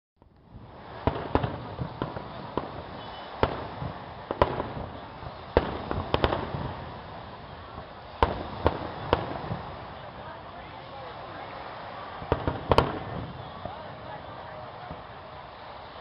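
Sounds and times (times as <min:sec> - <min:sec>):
fireworks bursting with sharp bangs: 0:00.2 - 0:16.0
steady background hiss: 0:00.3 - 0:16.0.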